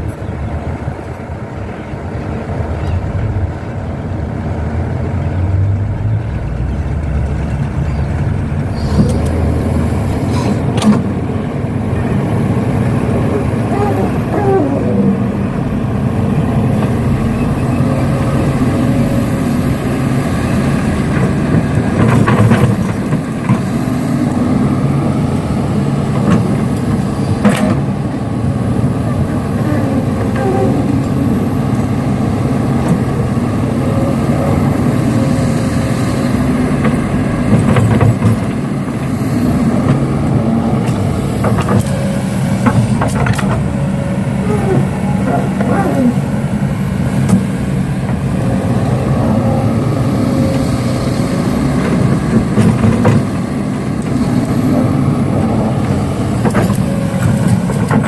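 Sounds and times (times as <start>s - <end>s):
heavy vehicle engine droning: 0.0s - 58.0s.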